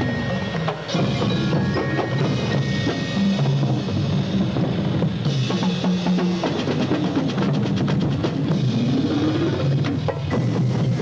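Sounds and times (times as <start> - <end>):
snare drums: 0.0 - 11.0
tenor drums: 0.0 - 11.0.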